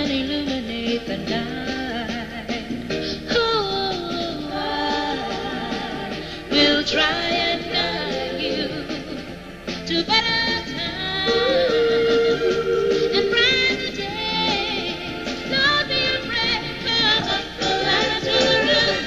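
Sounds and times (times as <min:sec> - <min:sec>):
women singing in harmony: 0:00.0 - 0:02.7, 0:03.3 - 0:19.0
backing band: 0:00.0 - 0:19.0.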